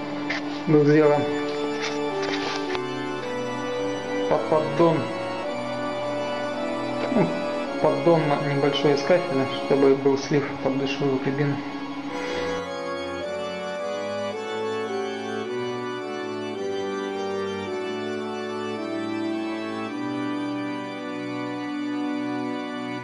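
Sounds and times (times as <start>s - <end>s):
slow keyboard chords: 0.0s - 23.0s.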